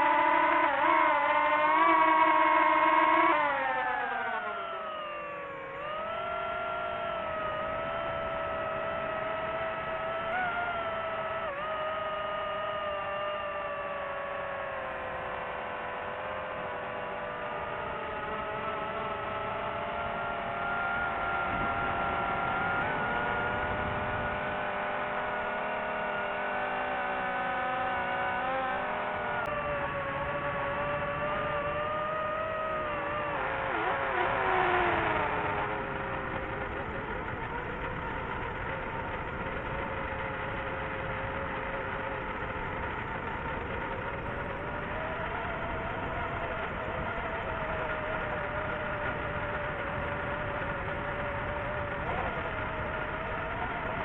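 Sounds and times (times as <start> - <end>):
drone propellers whining: 0.0 - 54.0.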